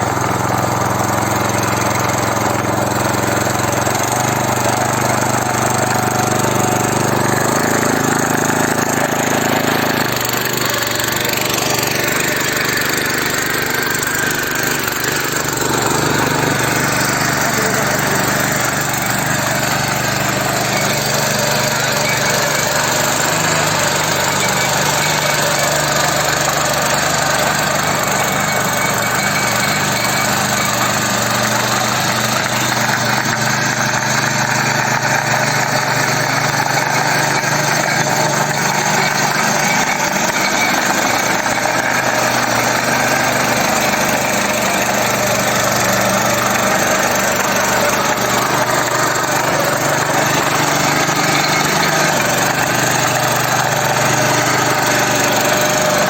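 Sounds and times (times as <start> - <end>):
small tiller engine running: 0.0 - 56.0.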